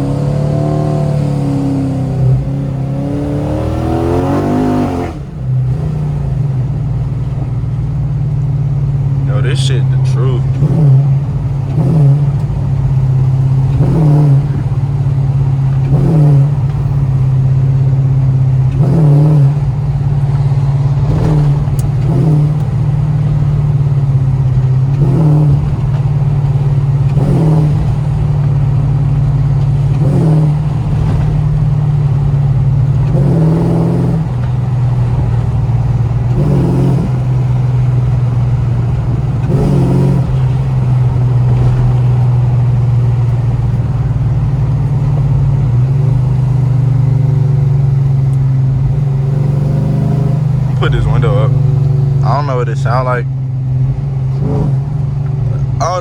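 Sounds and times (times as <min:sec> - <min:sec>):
car exhaust droning: 0:00.0 - 0:56.0.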